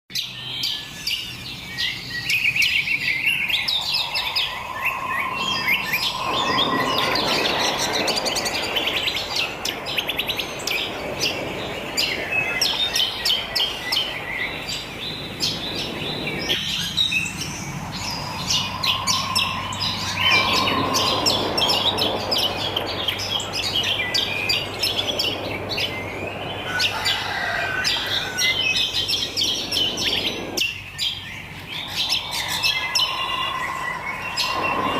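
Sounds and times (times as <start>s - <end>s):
wild birds chirping and singing: 0.1s - 34.9s
steady rushing background noise: 0.7s - 34.9s.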